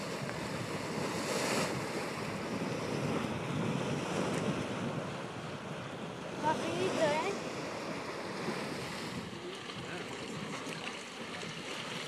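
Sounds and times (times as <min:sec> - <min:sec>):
hot spring bubbling: 0:00.0 - 0:12.0.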